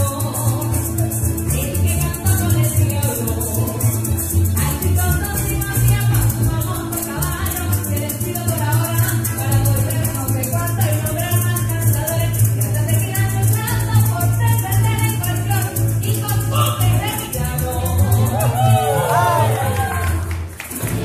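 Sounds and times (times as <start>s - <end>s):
person singing: 0.0s - 11.3s, 13.2s - 20.2s
bass line: 0.0s - 21.0s
maracas shaking: 0.0s - 21.0s.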